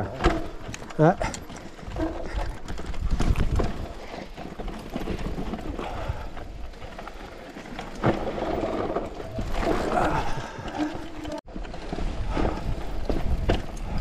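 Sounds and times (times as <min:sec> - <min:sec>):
bike rattling: 0:00.0 - 0:14.0.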